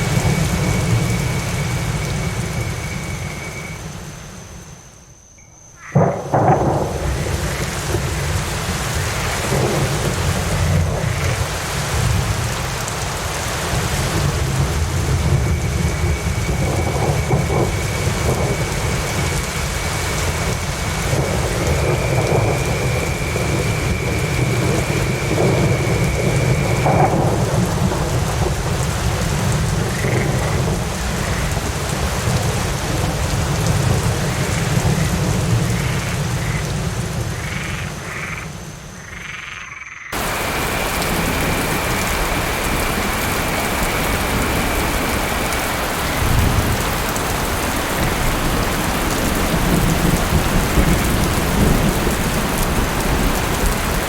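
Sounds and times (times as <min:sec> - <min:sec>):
low rumble of thunder: 0:00.0 - 0:04.1, 0:05.9 - 0:38.5, 0:40.2 - 0:54.0
heavy rain: 0:00.0 - 0:05.1, 0:05.7 - 0:39.4, 0:40.1 - 0:54.0
frogs croaking: 0:00.0 - 0:54.0.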